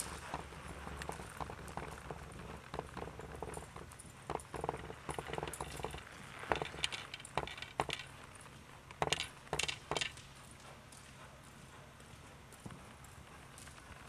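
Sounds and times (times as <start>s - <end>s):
hoofbeats on soft dirt: 0.0s - 14.0s
sharp hoof clicks: 0.0s - 14.0s.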